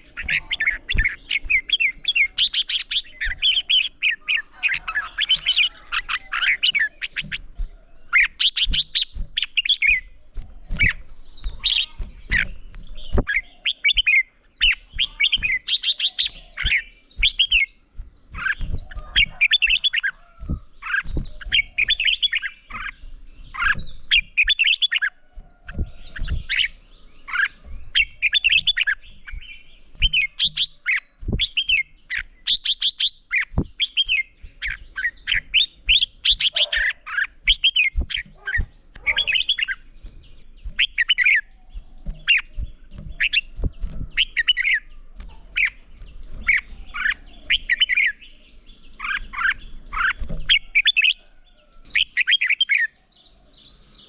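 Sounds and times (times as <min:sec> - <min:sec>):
sharp bird clicks: 0:00.0 - 0:51.2
bird singing warbled phrases: 0:00.0 - 0:54.0.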